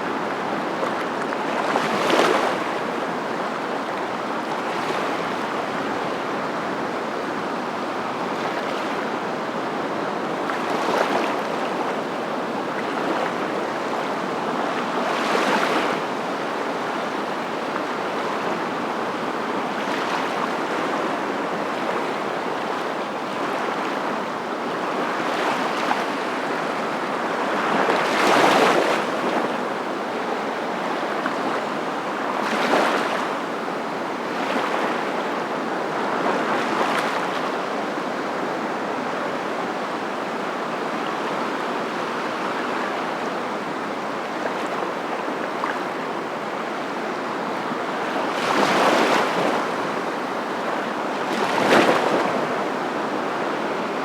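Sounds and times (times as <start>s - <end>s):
surf waves breaking: 0.0s - 54.0s.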